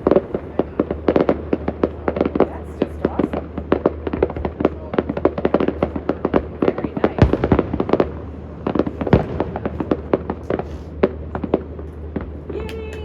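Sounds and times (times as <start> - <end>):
fireworks crackling pops: 0.0 - 13.0
heavy firework bangs: 0.0 - 13.0.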